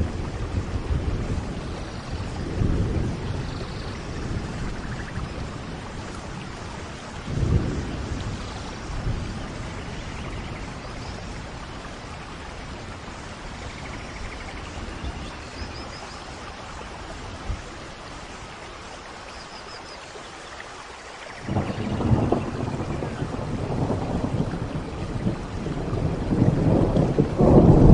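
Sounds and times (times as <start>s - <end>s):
low rumbles of thunder: 0.0s - 18.1s, 21.4s - 27.9s
steady rain falling: 0.0s - 27.9s.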